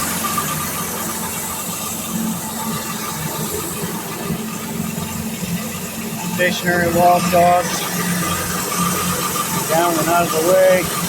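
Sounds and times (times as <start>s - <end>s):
sawmill engine idling: 0.0s - 11.0s.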